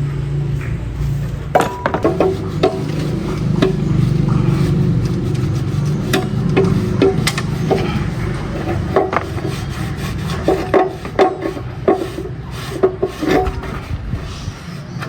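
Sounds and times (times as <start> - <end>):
low hum: 0.0 - 15.0
sharp metallic knocks and clanks: 1.5 - 13.9.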